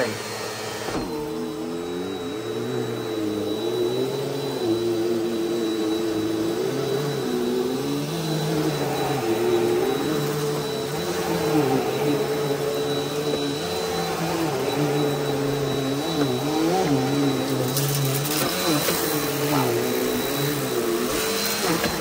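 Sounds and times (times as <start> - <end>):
upright vacuum cleaner running: 0.0 - 22.0.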